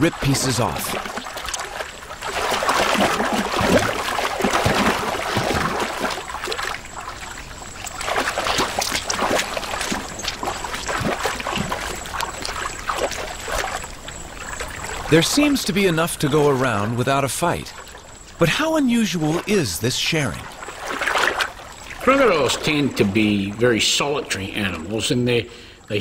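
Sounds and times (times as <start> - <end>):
water splashing and sloshing: 0.0 - 25.4.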